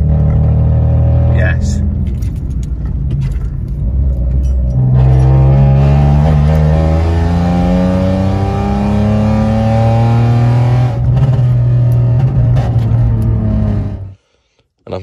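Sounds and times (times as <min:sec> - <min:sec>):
car engine and exhaust drone: 0:00.0 - 0:14.4.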